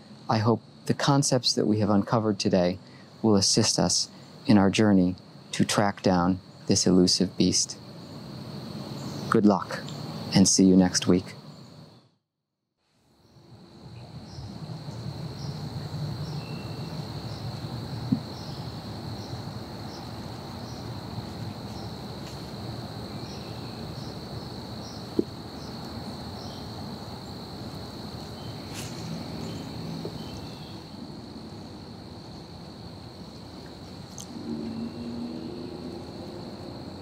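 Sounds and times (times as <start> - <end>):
insects droning: 0.0 - 12.1, 12.8 - 37.0.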